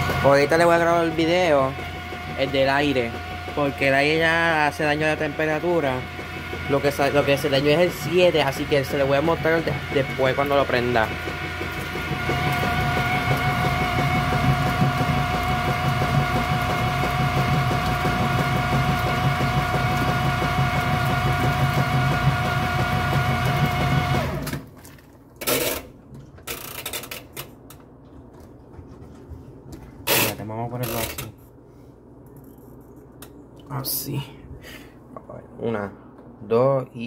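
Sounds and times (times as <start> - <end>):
washing machine droning: 0.0 - 37.0.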